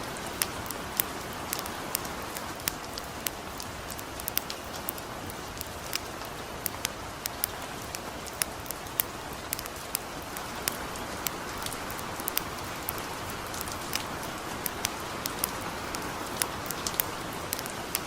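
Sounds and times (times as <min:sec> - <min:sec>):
campfire crackling: 0:00.0 - 0:18.0
light rain: 0:00.0 - 0:18.0.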